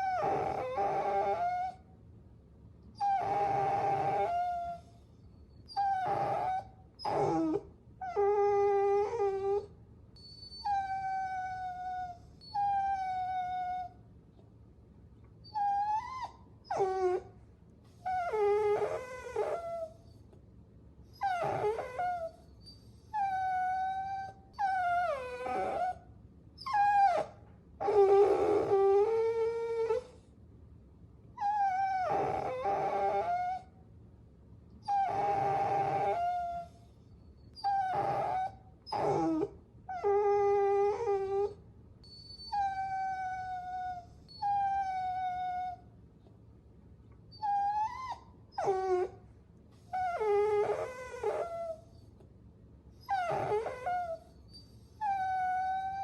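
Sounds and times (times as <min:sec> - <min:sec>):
puppies whining: 0:00.0 - 0:01.8, 0:03.0 - 0:14.0, 0:15.4 - 0:17.3, 0:17.9 - 0:20.3, 0:21.1 - 0:26.0, 0:26.6 - 0:30.2, 0:31.4 - 0:33.7, 0:34.8 - 0:45.9, 0:47.3 - 0:49.2, 0:49.8 - 0:52.2, 0:53.0 - 0:56.0.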